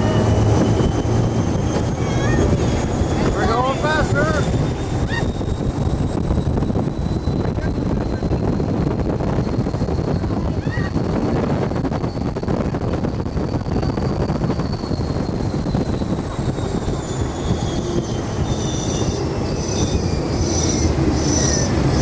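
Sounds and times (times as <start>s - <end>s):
ride vehicle rumble and whine: 0.0s - 22.0s.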